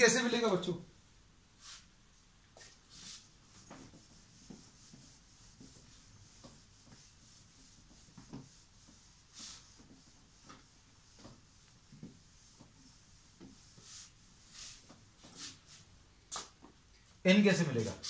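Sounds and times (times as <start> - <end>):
cloth wiping whiteboard: 1.6 - 16.7, 17.3 - 18.0.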